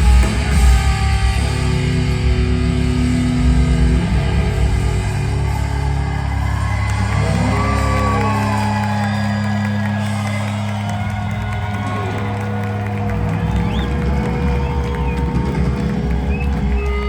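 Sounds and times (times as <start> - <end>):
crowd whooping: 0.0 - 17.0
rock band playing live: 0.0 - 17.0.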